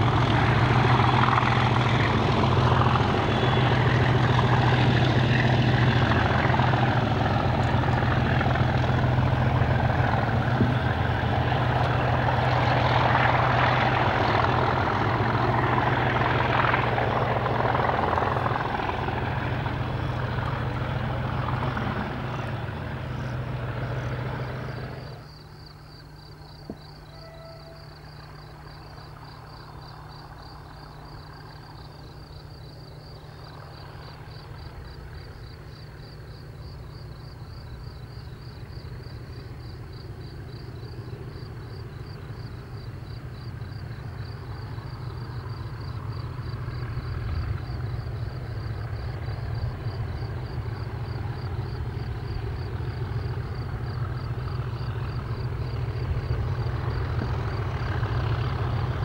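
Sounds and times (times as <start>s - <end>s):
crickets chirping: 0.0s - 59.0s
diesel locomotives working: 0.0s - 59.0s.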